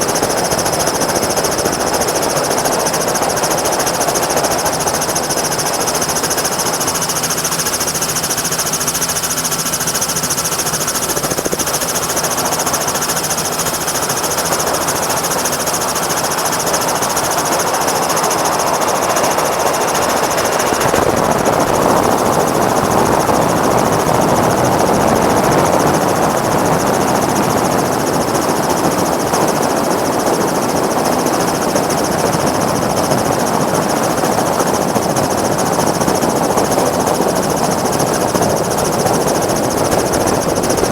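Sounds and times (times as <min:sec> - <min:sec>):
helicopter rotor chop: 0:00.0 - 0:40.9
turbine whine: 0:00.0 - 0:40.9.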